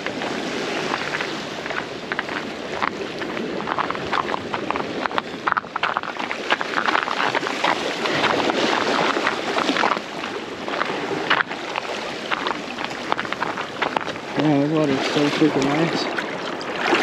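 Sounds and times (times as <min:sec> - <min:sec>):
sea water splashing against rocks: 0:00.0 - 0:17.0
wind on microphone: 0:00.0 - 0:17.0.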